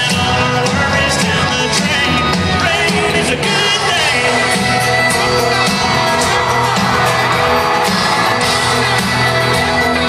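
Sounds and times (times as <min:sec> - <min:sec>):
crowd noise: 0:00.0 - 0:10.0
live country band playing: 0:00.0 - 0:10.0
steady drum beat: 0:00.0 - 0:10.0.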